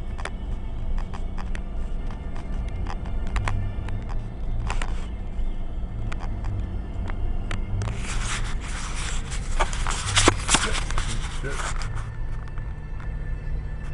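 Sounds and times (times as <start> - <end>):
vehicle engine rumble: 0.0 - 13.9.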